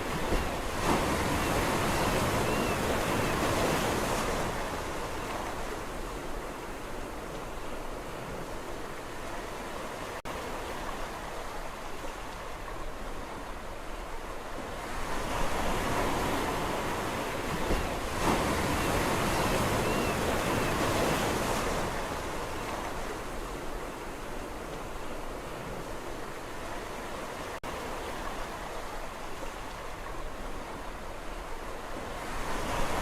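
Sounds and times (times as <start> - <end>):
sea waves washing on shore: 0.0 - 33.0.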